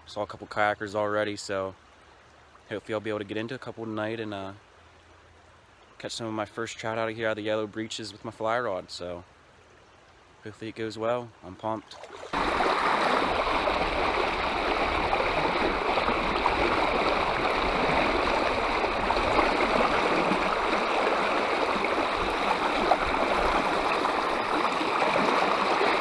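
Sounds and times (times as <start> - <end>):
creek rushing and babbling: 0.0 - 26.0.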